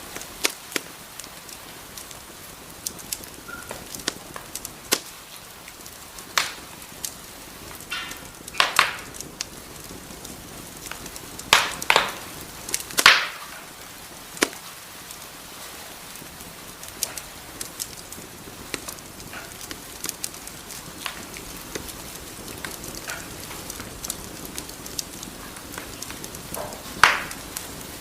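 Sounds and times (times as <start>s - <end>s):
faint steady hiss: 0.0s - 28.0s
wood fire crackling: 0.0s - 28.0s.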